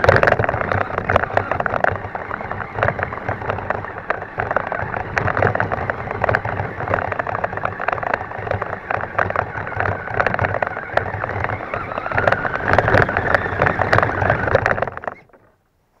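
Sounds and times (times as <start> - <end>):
rising whine: 0.0 - 15.4
drivetrain running noise: 0.0 - 16.0.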